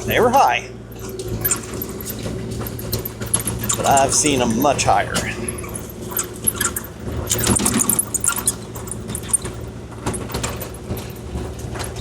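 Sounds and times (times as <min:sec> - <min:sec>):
excavator diesel engine running: 0:00.0 - 0:12.0
sharp clatters and rattles: 0:00.0 - 0:12.0.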